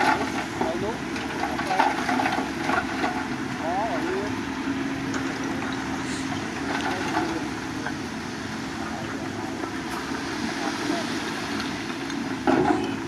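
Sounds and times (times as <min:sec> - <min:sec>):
heavy machinery engine humming: 0:00.0 - 0:13.0.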